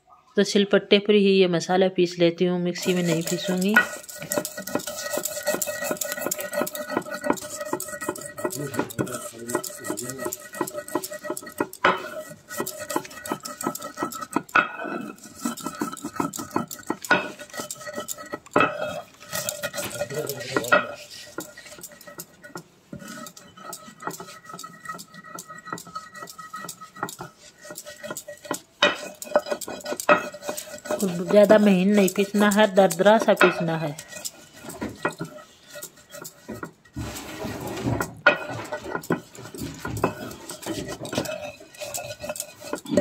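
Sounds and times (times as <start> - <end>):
stone roller scraping and crunching seeds: 2.8 - 43.0.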